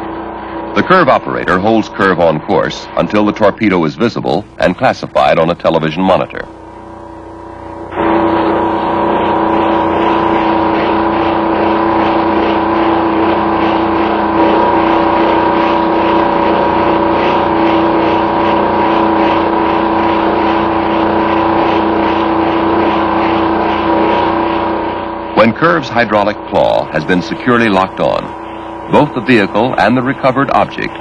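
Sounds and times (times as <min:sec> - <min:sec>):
steady motor drone: 0:00.0 - 0:31.0.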